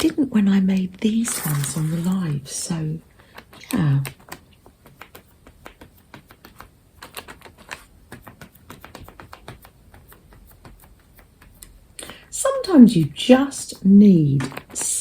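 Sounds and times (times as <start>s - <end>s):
paintbrush dabbing on paper: 1.0s - 3.0s, 4.9s - 15.0s.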